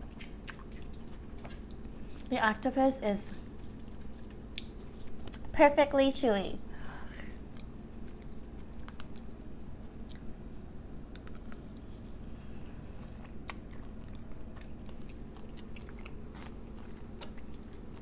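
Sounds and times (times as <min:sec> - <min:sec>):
person chewing food: 0:00.0 - 0:02.3, 0:03.3 - 0:05.5, 0:06.8 - 0:18.0
faint low hum: 0:00.0 - 0:18.0.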